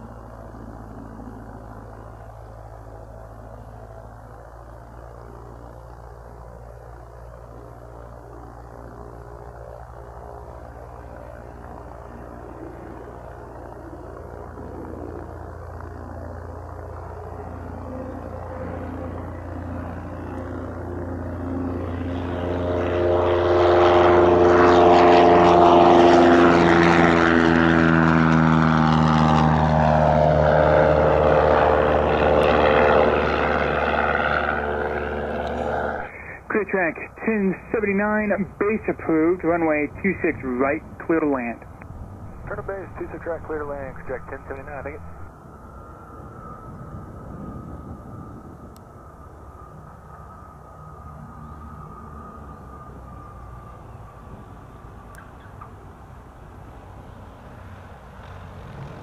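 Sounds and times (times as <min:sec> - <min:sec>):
propeller plane passing: 0:00.0 - 0:59.0.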